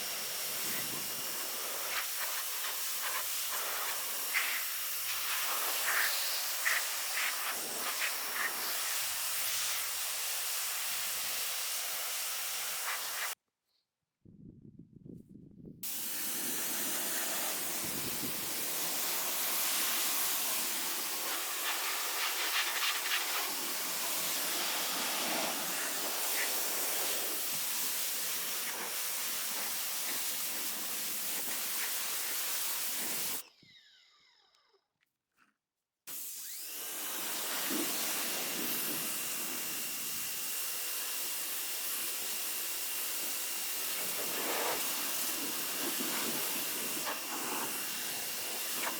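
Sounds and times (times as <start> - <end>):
pressure washer water jet hissing: 0.0 - 13.4, 15.8 - 33.4, 36.1 - 48.9.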